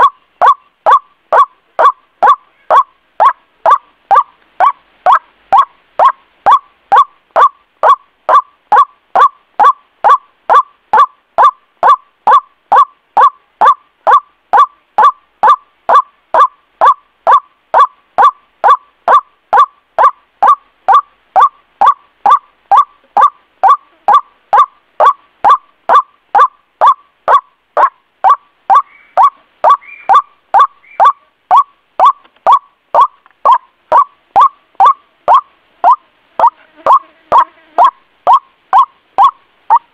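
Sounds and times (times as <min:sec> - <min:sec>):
bird call repeated: 0:00.0 - 0:39.9.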